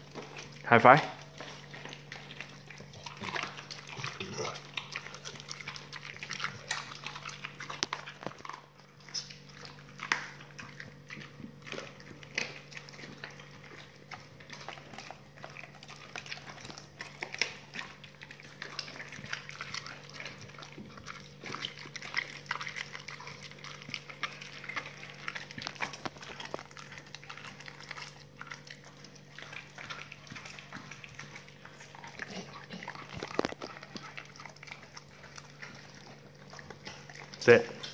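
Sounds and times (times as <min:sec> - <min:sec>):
dog chewing wet meat: 0:00.0 - 0:37.9
teeth clicking: 0:01.3 - 0:37.9.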